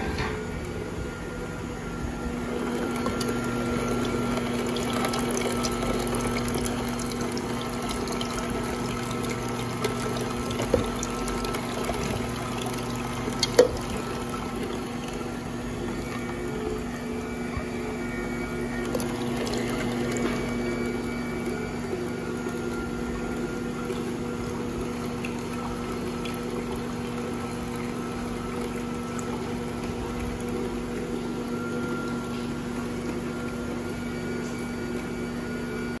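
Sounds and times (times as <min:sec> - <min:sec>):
juicer motor humming: 0:00.0 - 0:36.0
juice trickling into cup: 0:02.4 - 0:35.2.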